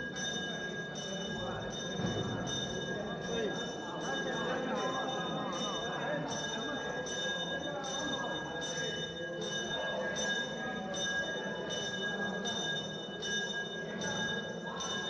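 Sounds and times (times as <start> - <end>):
low background murmur: 0.0 - 15.0.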